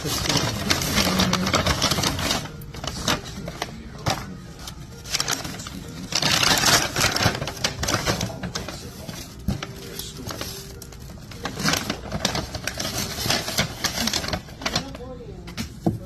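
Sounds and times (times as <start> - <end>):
paper bags rustling: 0.0 - 16.0.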